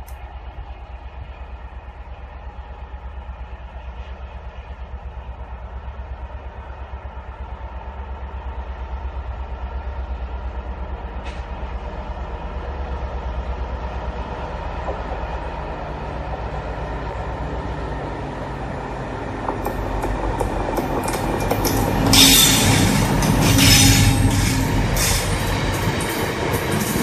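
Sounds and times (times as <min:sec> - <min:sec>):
locomotive engine throb: 0:00.4 - 0:27.0.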